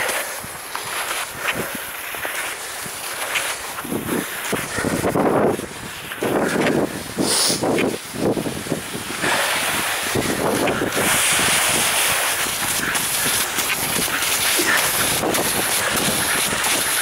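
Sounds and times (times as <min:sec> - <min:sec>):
skis hissing over snow: 0:00.0 - 0:17.0
wind buffeting microphone: 0:00.0 - 0:17.0.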